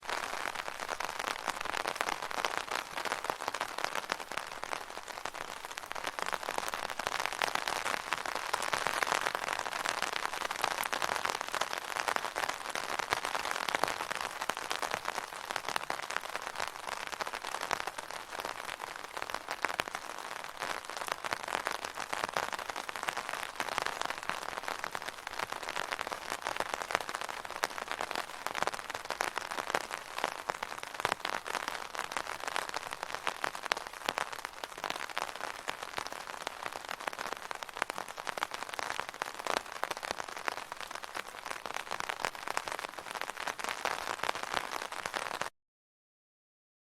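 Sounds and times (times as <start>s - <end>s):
rain pattering on an umbrella: 0.0s - 45.5s.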